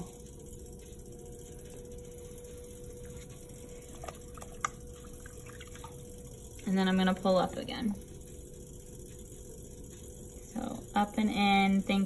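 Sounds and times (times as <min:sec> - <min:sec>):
potter's wheel humming: 0:00.0 - 0:12.0.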